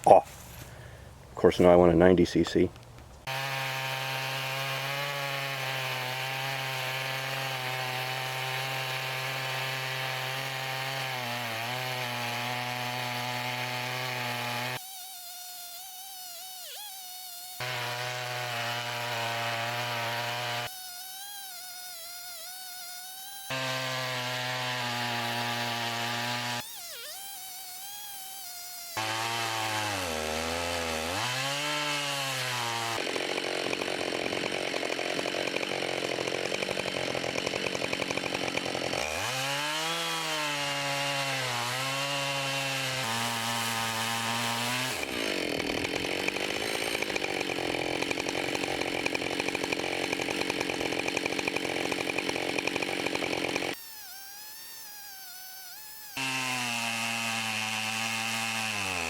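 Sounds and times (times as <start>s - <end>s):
chainsaw cutting log: 1.5s - 59.0s.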